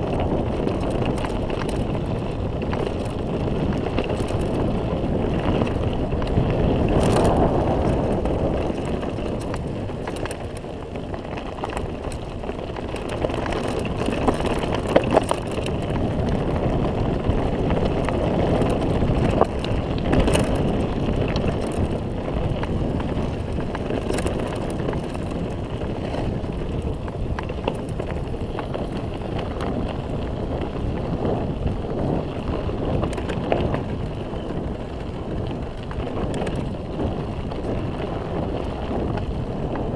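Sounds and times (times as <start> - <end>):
bike knocking and rattling: 0.0 - 39.9
tyres on loose dirt: 0.0 - 39.9
wind on microphone: 0.0 - 39.9.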